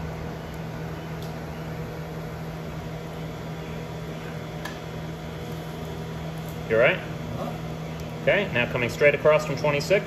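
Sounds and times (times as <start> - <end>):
transformer and fan hum: 0.0 - 10.0.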